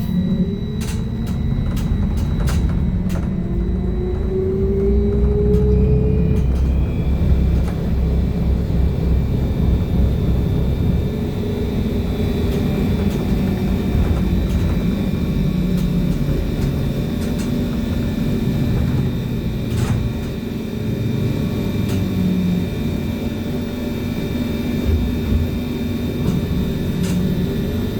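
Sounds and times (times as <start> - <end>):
high electric motor whine: 0.0 - 27.9
low road rumble: 0.0 - 27.9.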